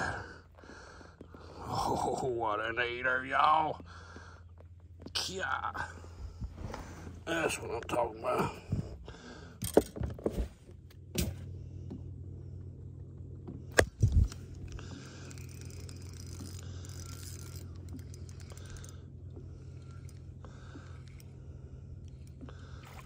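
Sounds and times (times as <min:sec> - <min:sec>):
low electric hum: 0:00.0 - 0:23.0.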